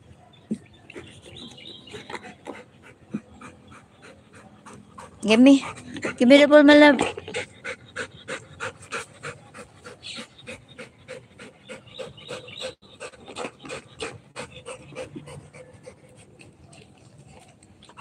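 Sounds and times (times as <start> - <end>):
dog panting rapidly: 0.8 - 16.8.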